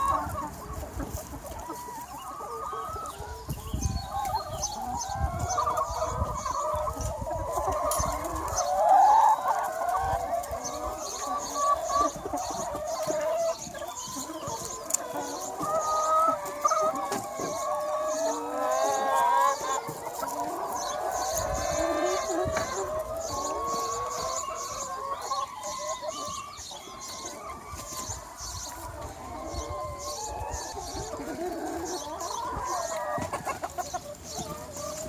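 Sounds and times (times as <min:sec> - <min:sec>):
hens clucking: 0:00.0 - 0:35.0.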